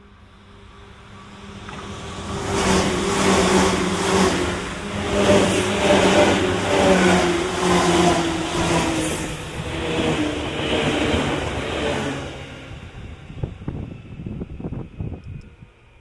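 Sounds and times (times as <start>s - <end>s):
electric train traction motors whining: 0.0s - 16.0s
train rumble: 0.0s - 16.0s.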